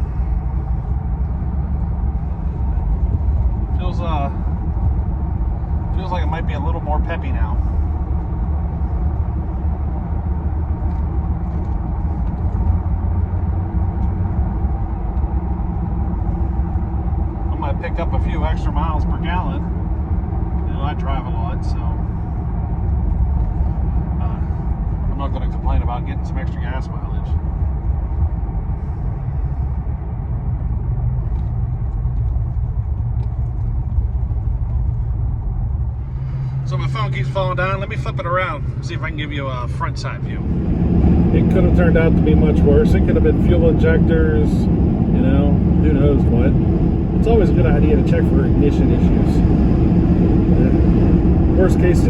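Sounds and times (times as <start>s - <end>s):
pickup engine rumble: 0.0s - 52.0s
road noise: 0.0s - 52.0s.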